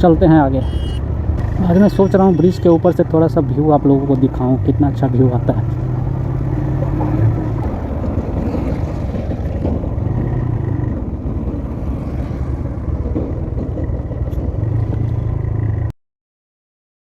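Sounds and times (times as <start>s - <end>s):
road and wind rumble: 0.0s - 15.9s.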